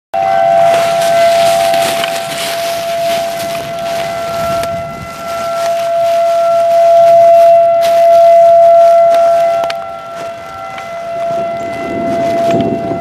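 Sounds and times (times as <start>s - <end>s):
tornado warning siren: 0.2s - 13.0s.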